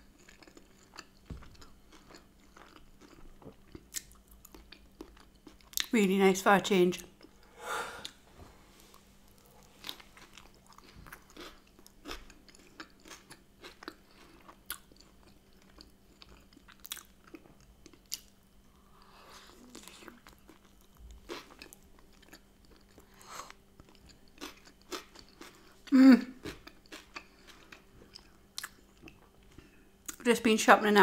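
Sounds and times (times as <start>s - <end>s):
person chewing soft bread: 0.0s - 5.9s, 8.8s - 30.2s
faint steady hum: 0.0s - 31.0s.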